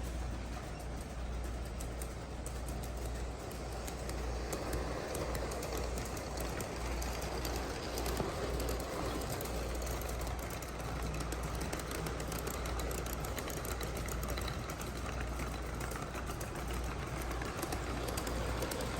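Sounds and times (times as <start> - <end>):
model train motor hum: 0.0 - 18.9
rapid wheel clicks: 0.0 - 18.9.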